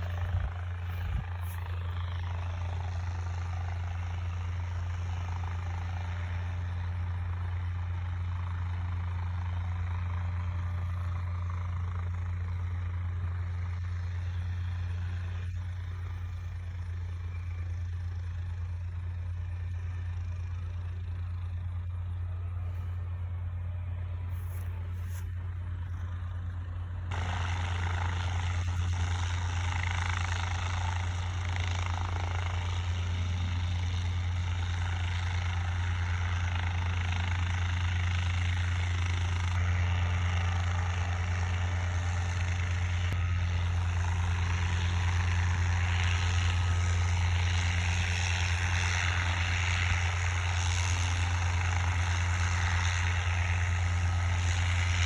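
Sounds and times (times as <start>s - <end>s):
propeller airplane engine droning: 0.0s - 55.0s.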